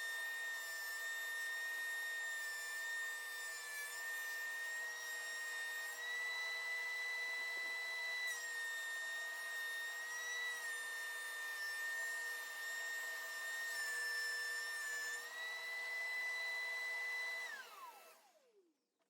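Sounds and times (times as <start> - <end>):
thickness planer whining: 0.0 - 18.7.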